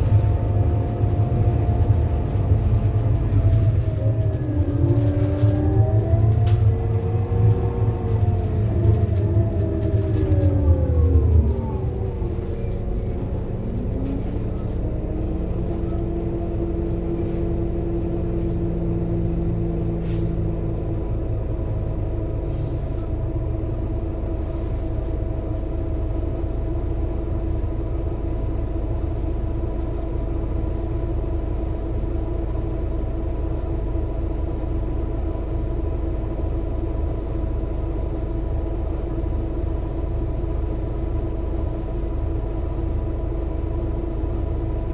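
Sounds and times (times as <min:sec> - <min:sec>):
bus engine idling: 0:00.0 - 0:44.9.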